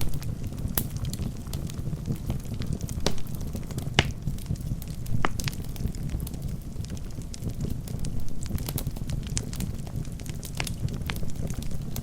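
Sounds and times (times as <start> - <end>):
logs crackling and popping: 0.0 - 12.0
low rumble of flames: 0.0 - 12.0.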